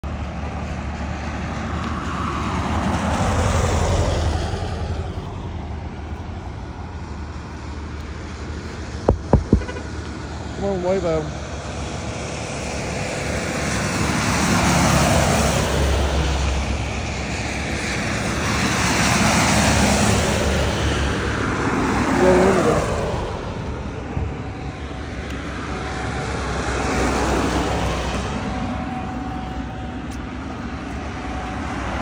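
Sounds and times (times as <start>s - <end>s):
buses driving past: 0.0s - 32.0s.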